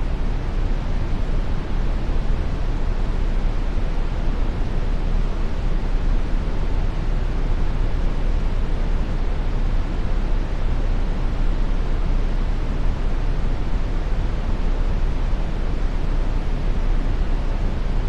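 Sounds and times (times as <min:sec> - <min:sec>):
brown noise hiss: 0:00.0 - 0:18.0.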